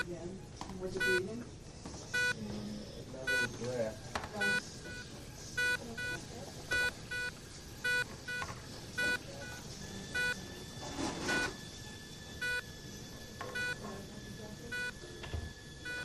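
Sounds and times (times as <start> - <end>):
patient monitor beeping: 0.0 - 16.0
steady background hum: 0.0 - 16.0.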